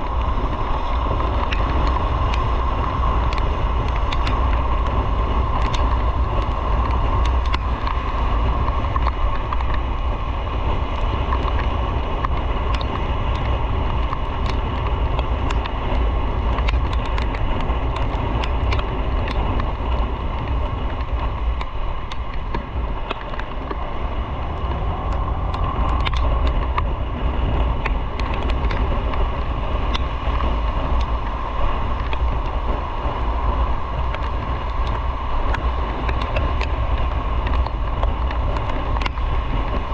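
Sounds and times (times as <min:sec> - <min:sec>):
light ticks: 0:00.0 - 0:39.9
motorcycle engine rumble: 0:00.0 - 0:39.9
wind rumble: 0:00.0 - 0:39.9.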